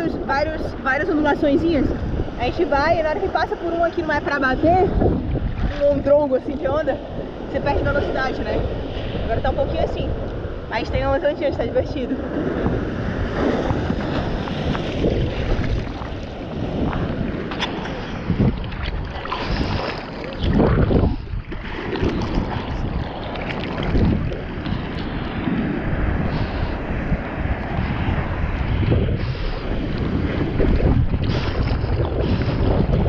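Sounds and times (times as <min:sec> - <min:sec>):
water sloshing and splashing: 0:00.0 - 0:11.1, 0:12.0 - 0:33.0
wave breaking: 0:00.0 - 0:33.0
wind buffeting microphone: 0:00.0 - 0:33.0.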